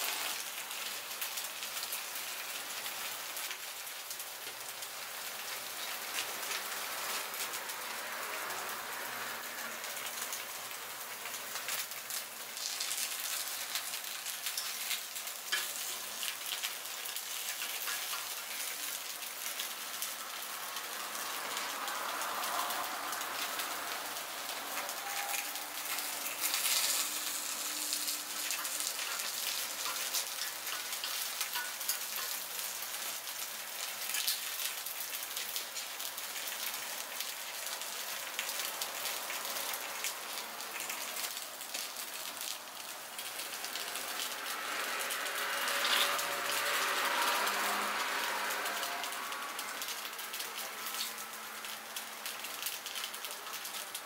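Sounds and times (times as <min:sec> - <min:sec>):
batter sizzling in hot pan: 0:00.0 - 0:54.0.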